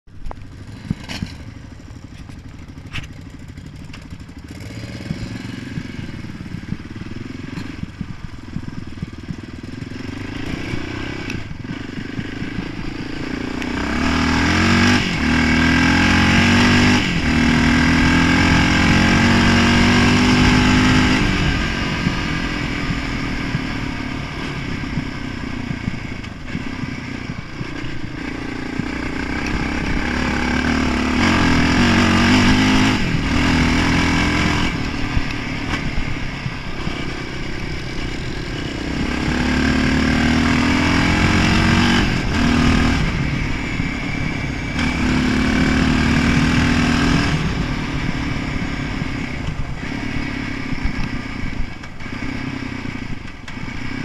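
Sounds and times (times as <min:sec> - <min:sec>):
quad engine revving: 0:02.4 - 0:54.0.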